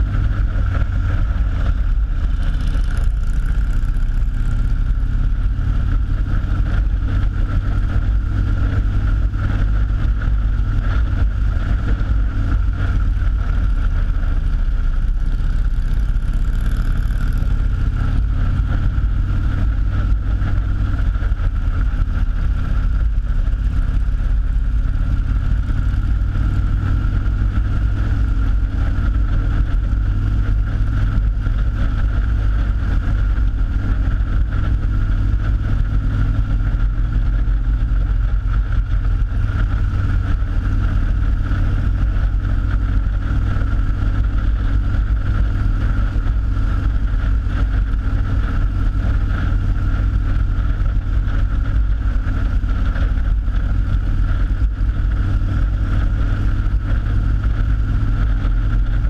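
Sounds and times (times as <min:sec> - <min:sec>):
motorcycle engine drone: 0:00.0 - 0:59.0
wind rush on microphone: 0:00.0 - 0:59.0.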